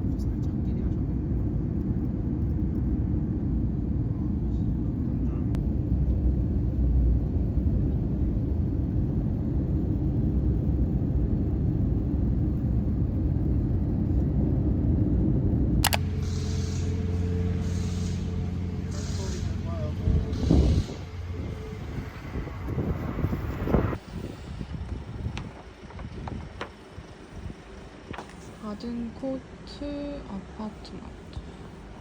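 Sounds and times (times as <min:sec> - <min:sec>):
vehicle interior rumble: 0:00.0 - 0:32.0.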